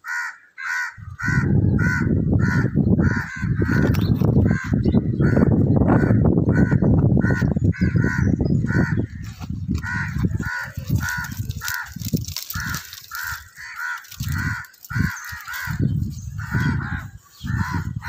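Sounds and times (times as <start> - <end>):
crows cawing: 0.0 - 18.0
wind rumble on microphone: 0.9 - 18.0.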